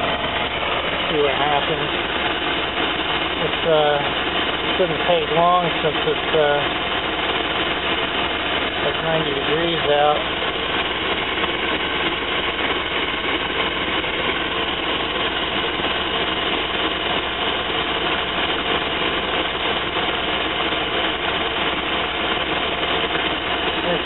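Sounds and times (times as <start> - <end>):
van engine idling: 0.0 - 24.0.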